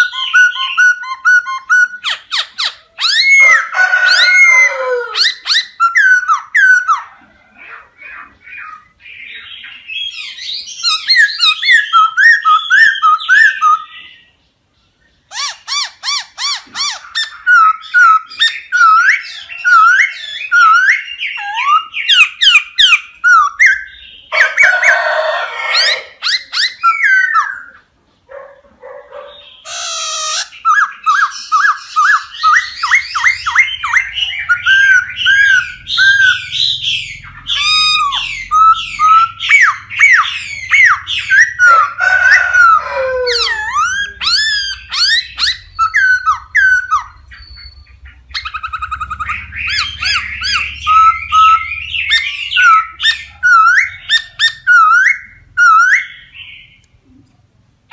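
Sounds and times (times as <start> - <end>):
bird whistling song: 0.0 - 7.1, 8.1 - 14.4, 15.0 - 24.9, 25.7 - 27.8, 29.2 - 56.9
harsh raspy bird calls: 0.0 - 14.4, 15.0 - 56.9.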